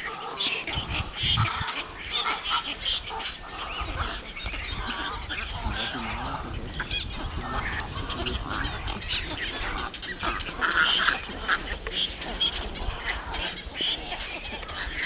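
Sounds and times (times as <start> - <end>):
birds calling harshly: 0.0 - 15.0.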